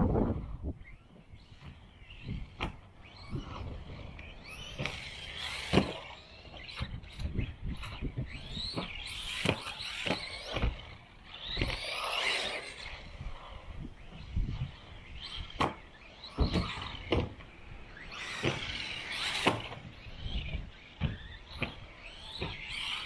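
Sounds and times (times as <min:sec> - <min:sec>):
electric motor whining: 0:00.3 - 0:23.0.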